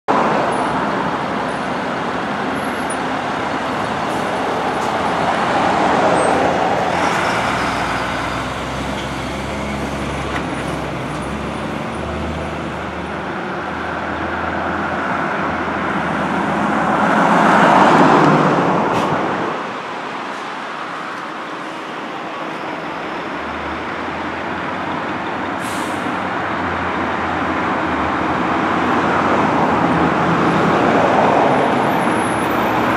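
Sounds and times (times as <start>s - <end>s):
road traffic: 0.1s - 32.9s
fire truck engine pulling away: 0.4s - 16.8s, 17.6s - 32.9s.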